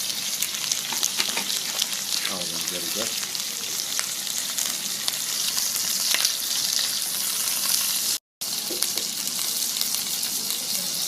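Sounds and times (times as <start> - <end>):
birds sizzling in a frying pan: 0.0 - 11.0.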